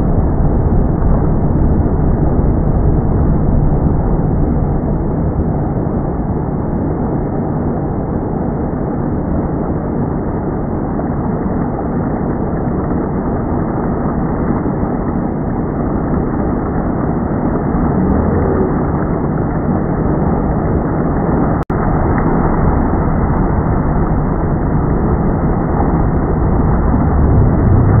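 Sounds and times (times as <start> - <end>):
motorboat engine rumble: 0.0 - 28.0
wind on microphone: 0.0 - 28.0.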